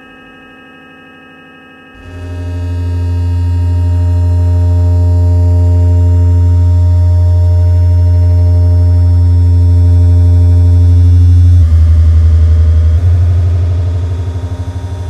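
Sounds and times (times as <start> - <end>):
low synthesizer drone: 1.8 - 15.0.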